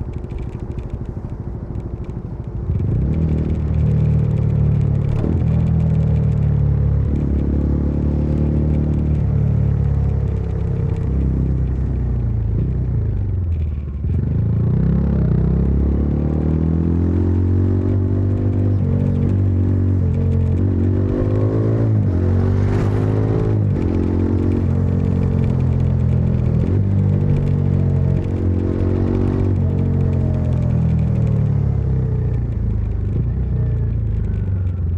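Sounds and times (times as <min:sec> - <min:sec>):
motorcycle engine and exhaust: 0:00.0 - 0:34.9.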